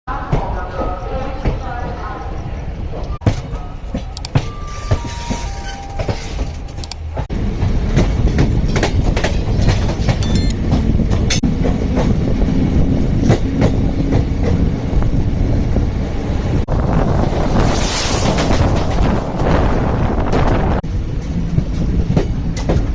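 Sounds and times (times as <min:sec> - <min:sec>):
train rumble: 0:00.1 - 0:22.9.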